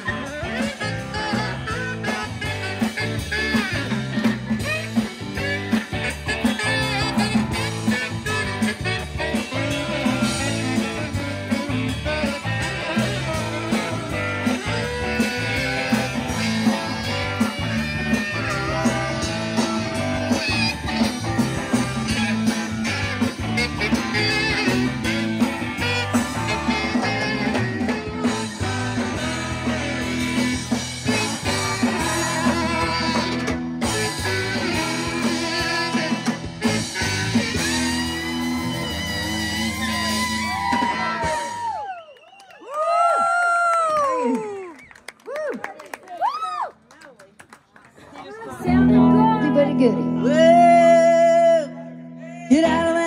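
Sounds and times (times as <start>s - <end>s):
live rock band playing: 0.0s - 41.9s, 48.5s - 53.0s.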